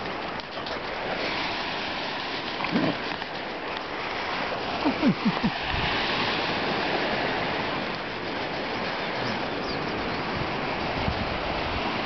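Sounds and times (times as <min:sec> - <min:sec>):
surf rushing: 0:00.0 - 0:12.0
wind: 0:00.0 - 0:12.0.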